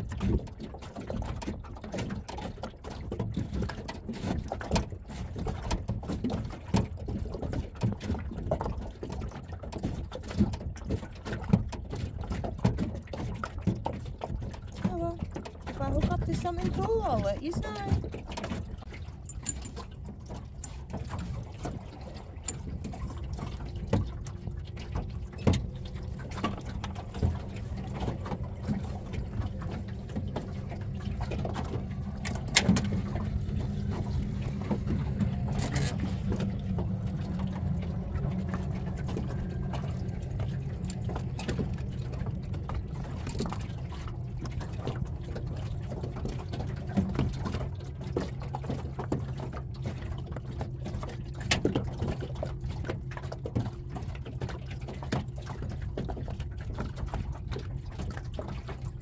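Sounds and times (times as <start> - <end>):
outboard motor running: 0.0 - 59.0
water slapping against hull: 0.0 - 59.0.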